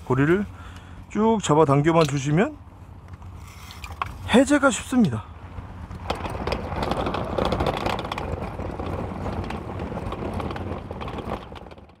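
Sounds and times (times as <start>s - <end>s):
cooler wheels rumbling on concrete: 0.0s - 12.0s.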